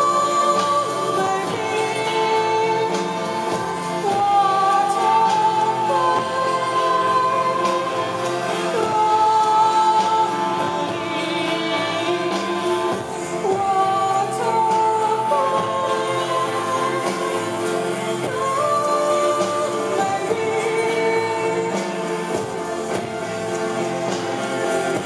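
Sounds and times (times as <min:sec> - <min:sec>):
keyboards: 0:00.0 - 0:25.0
live rock band playing: 0:00.0 - 0:25.0.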